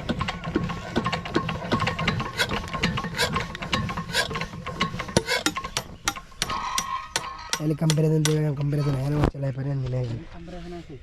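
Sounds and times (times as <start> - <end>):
diesel engine hand-cranked clattering: 0.0 - 8.8.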